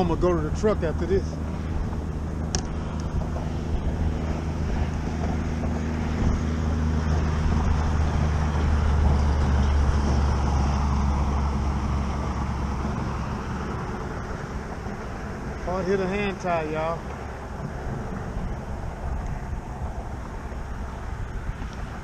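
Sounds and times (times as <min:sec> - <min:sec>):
boat motor droning: 0:00.0 - 0:22.0.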